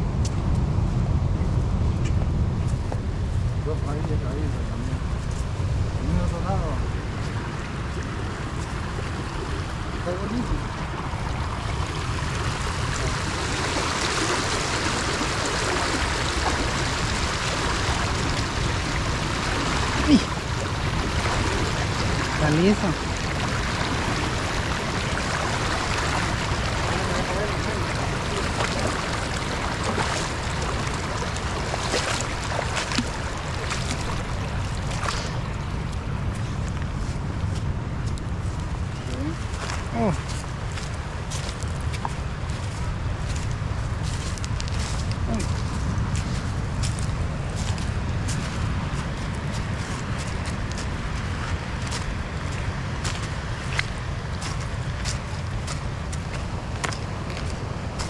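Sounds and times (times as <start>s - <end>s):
wind on microphone: 0.0s - 58.0s
river water rushing over stones: 5.0s - 58.0s
legs wading and splashing: 6.9s - 58.0s.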